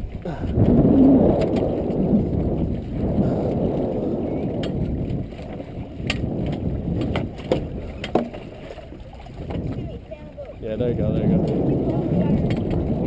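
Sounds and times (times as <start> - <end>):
water sloshing against hull: 0.0 - 13.0
wind buffeting microphone: 0.0 - 13.0.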